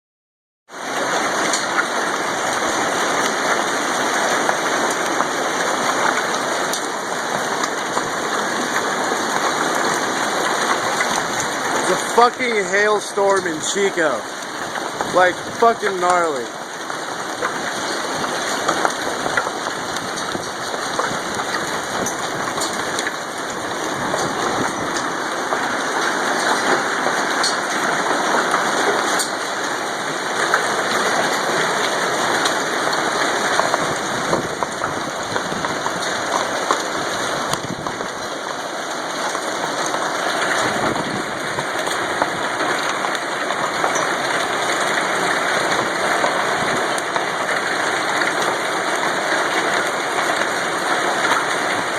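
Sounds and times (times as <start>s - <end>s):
hailstones pelting down: 0.7s - 51.9s.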